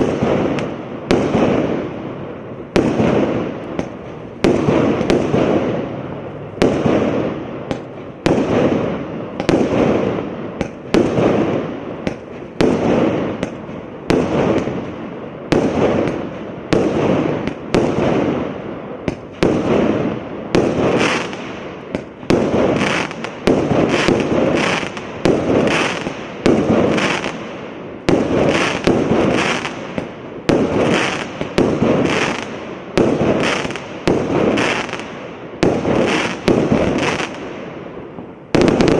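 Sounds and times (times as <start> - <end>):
firework shots banging: 0.0 - 2.0, 2.7 - 37.7, 38.5 - 38.9.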